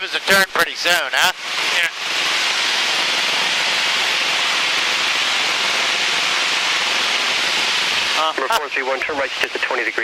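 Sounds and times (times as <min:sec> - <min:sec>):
airplane cabin engine hiss: 0:00.2 - 0:10.0.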